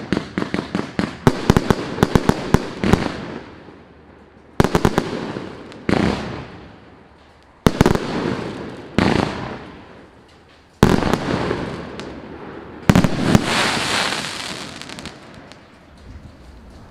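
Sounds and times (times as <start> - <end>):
firework bangs with crackle: 0.0 - 3.8, 4.6 - 6.9, 7.6 - 16.9.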